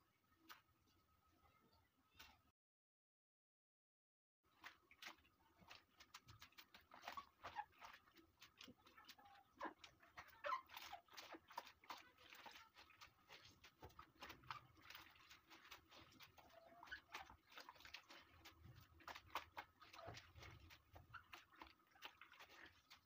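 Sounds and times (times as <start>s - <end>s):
hands sloshing leaves in water: 4.5s - 23.0s.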